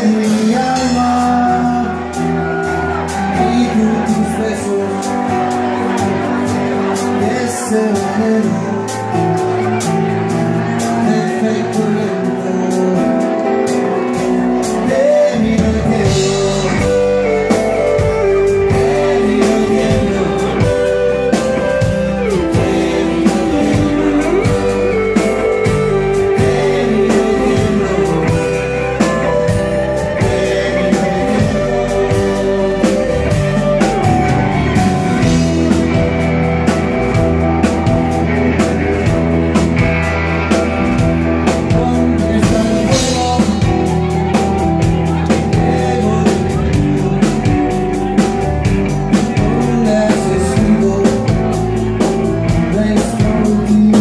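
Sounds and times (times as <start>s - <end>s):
acoustic guitar: 0.0s - 54.0s
bass guitar: 0.0s - 54.0s
electric guitar: 0.0s - 54.0s
person singing: 0.0s - 54.0s.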